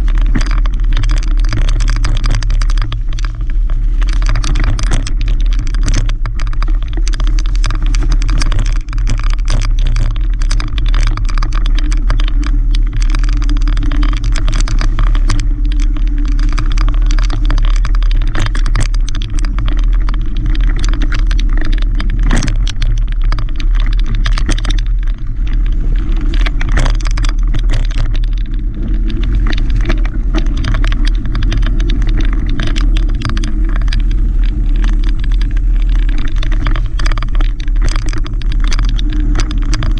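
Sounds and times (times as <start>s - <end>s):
bike clicks and rattles: 0.0s - 39.9s
wind rumble on microphone: 0.0s - 39.9s.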